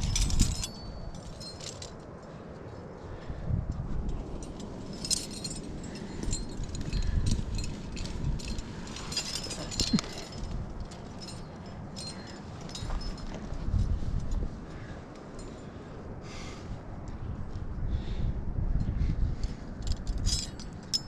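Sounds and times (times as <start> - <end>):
metal climbing gear clinking: 0.0 - 15.9, 18.8 - 21.0.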